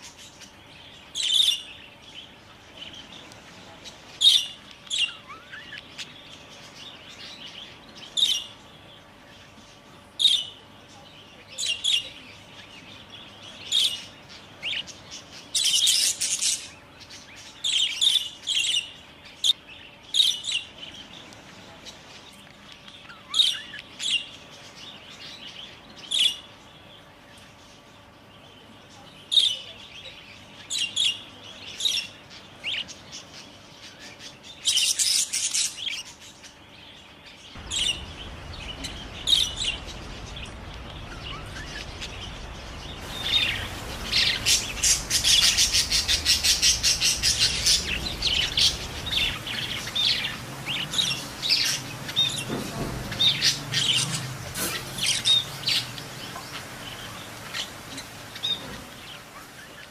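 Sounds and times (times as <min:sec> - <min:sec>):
budgerigars chirping: 0:00.0 - 0:10.6, 0:11.3 - 0:21.2, 0:29.3 - 0:59.9.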